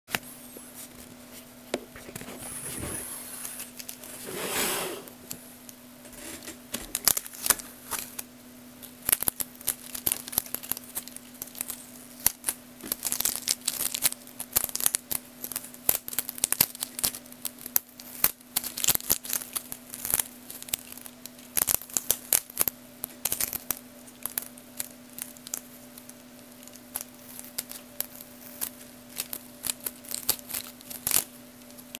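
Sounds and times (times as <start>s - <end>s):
steady low hum: 0.1s - 31.9s.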